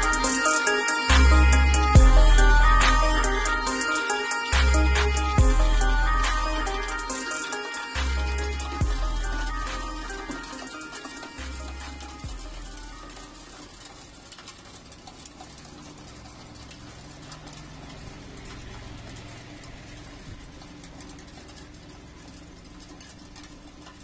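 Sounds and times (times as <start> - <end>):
nut cutting machine running: 0.0 - 24.0.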